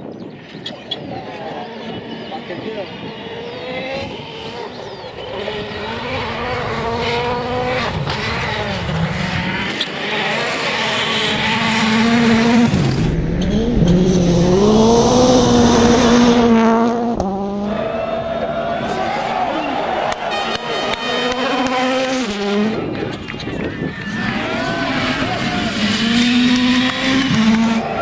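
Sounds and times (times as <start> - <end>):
rally car engine revving: 1.2 - 28.0.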